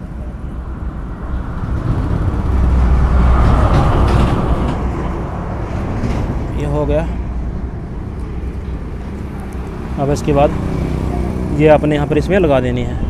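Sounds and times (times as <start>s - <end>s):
passing motor vehicle rumble: 0.0s - 13.0s.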